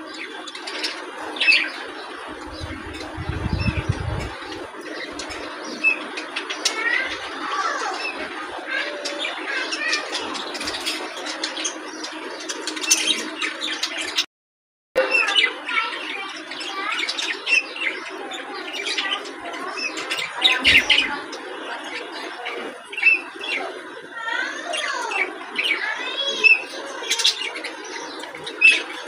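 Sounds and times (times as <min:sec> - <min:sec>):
budgerigars chattering: 0:00.0 - 0:14.3, 0:15.0 - 0:29.0.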